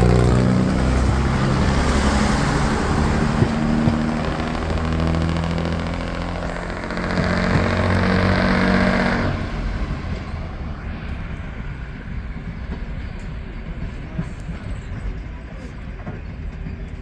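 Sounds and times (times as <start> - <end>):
engine running: 0.0 - 14.9
outdoor rumble: 0.0 - 17.0.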